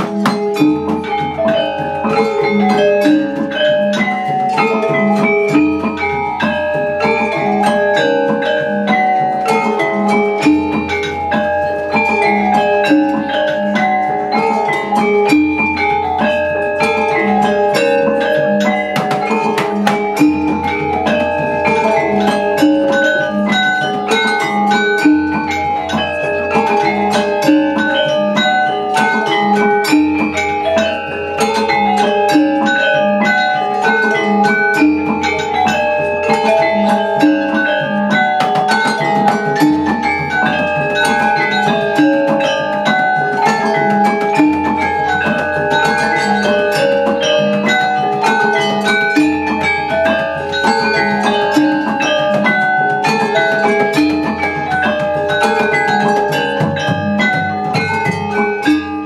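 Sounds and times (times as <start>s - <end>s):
gamelan ensemble playing: 0.0s - 59.0s.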